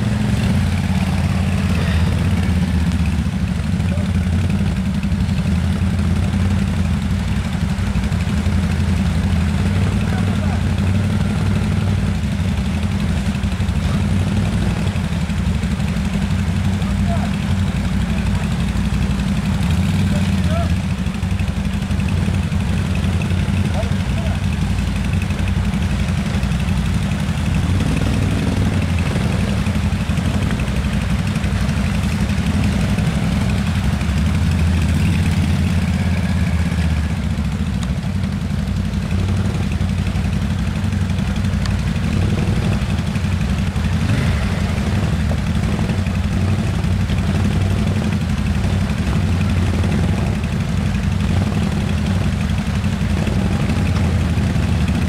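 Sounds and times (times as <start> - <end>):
atv engines running at low revs: 0.0 - 55.0.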